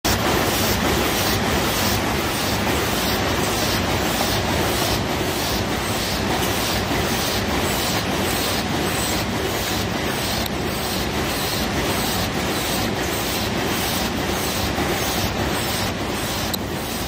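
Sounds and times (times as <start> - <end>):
machines clattering rhythmically: 0.1 - 17.0.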